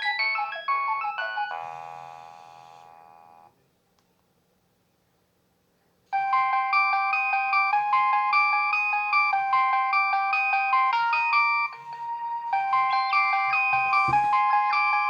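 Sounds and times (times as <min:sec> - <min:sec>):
mobile phone ringtone melody: 0:00.0 - 0:03.5, 0:06.2 - 0:15.0.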